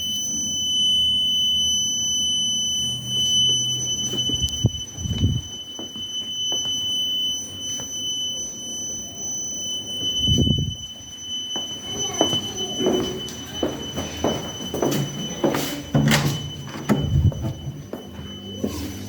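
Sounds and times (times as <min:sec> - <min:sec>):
alarm sounder high-pitched tone: 0:00.0 - 0:19.0.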